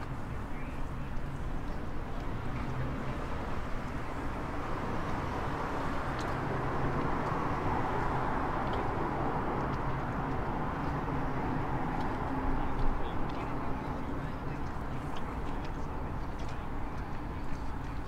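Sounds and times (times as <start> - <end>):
city traffic rumbling: 0.0 - 18.0.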